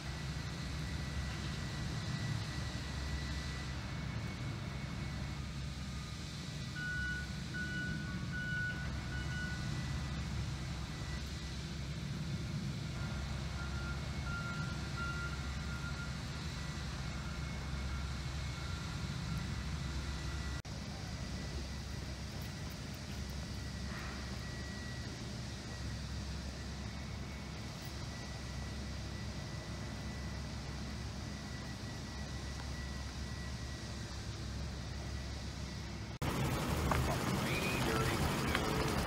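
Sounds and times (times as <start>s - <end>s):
diesel locomotive engine rumbling: 0.0s - 39.0s.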